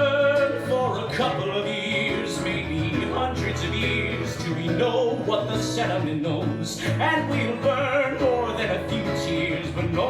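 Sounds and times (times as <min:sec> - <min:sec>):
guitar: 0:00.0 - 0:10.0
man singing: 0:00.0 - 0:10.0.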